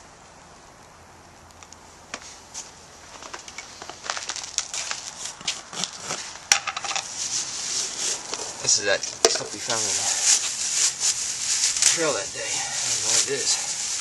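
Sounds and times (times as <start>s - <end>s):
dry crackling and rustling: 0.6s - 14.0s.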